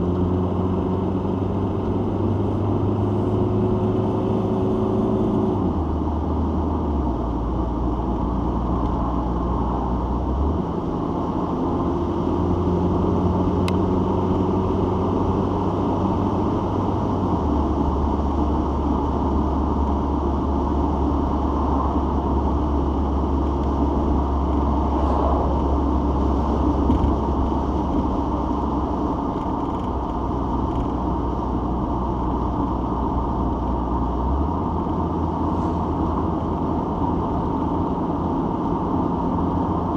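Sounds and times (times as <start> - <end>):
car engine drone: 0.0 - 39.9
road noise: 0.0 - 39.9.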